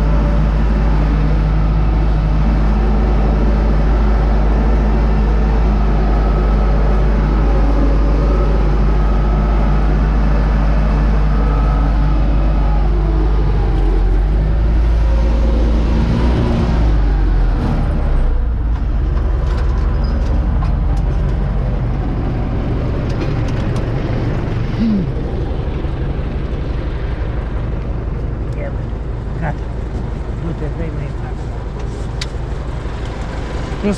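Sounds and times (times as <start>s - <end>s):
diesel tractor engine rumbling: 0.0s - 33.9s.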